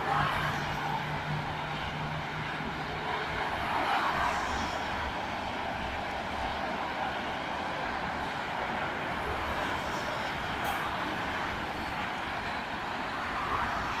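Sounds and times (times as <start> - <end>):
traffic engine rumble: 0.0 - 14.0.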